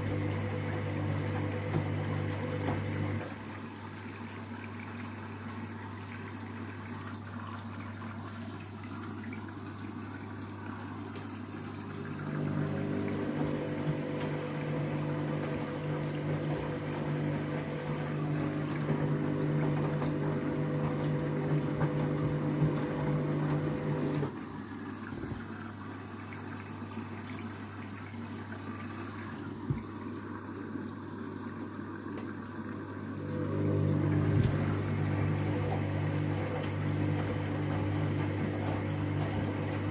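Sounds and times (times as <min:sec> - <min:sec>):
drain pump humming: 0:00.0 - 0:39.9
water running through pump: 0:00.0 - 0:39.9.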